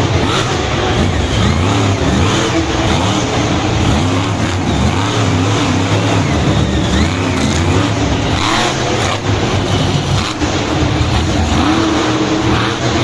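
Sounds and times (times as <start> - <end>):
truck engine revving loudly: 0.0 - 13.0.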